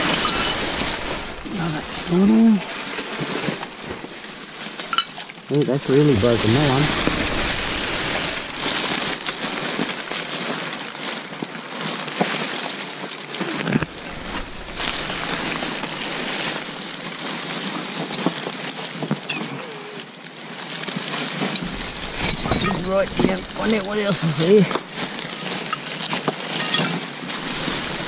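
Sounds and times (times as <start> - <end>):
plastic bags crinkling: 0.0 - 28.0.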